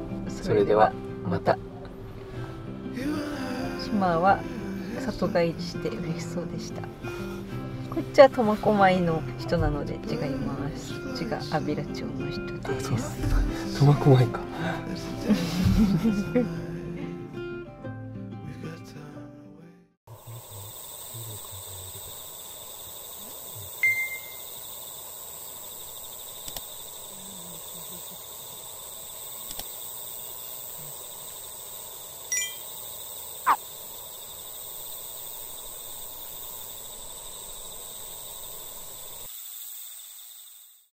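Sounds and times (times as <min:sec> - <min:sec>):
high-pitched insect chorus: 0:02.3 - 0:16.5, 0:20.1 - 0:40.9.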